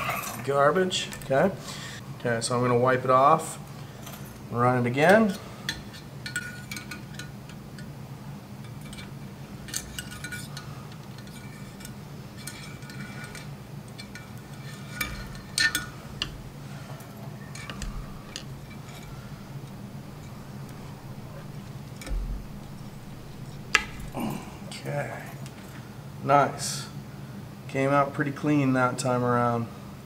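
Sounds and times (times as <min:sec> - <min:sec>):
steady low hum: 0:00.0 - 0:27.7.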